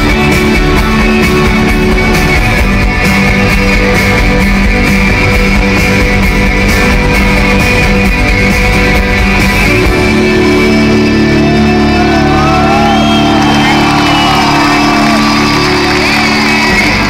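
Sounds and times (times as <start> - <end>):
live rock band with guitars: 0.0 - 17.0.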